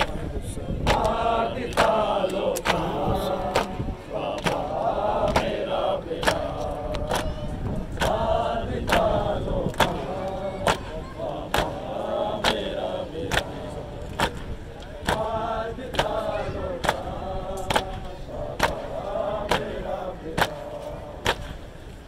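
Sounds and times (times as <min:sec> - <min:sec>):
men chanting a lament: 0:00.0 - 0:22.0.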